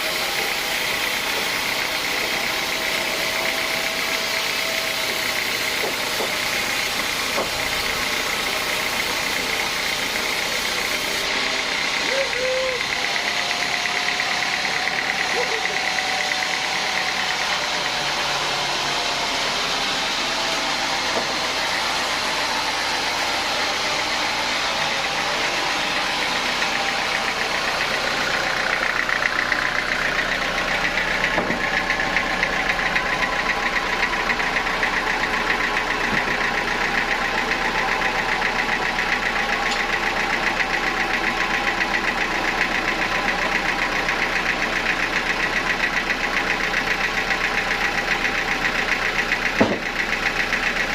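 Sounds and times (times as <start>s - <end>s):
sawmill saw running: 0.0s - 50.9s.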